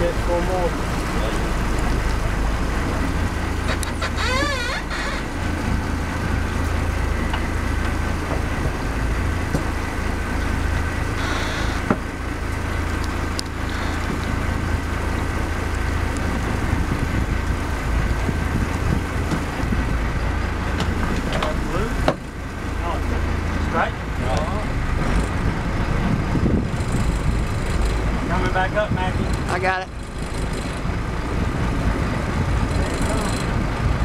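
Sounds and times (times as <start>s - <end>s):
boat engine running: 0.0s - 34.0s
water and wind noise: 0.0s - 34.0s.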